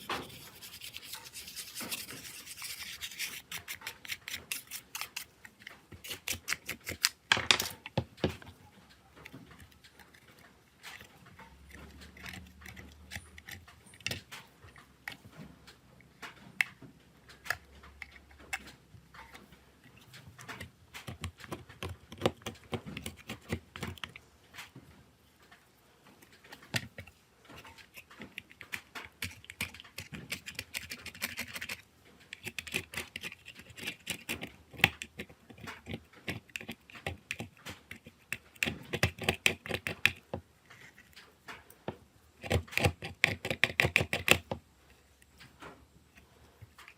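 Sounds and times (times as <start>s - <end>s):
small tools clicking and tapping: 0.0s - 46.9s.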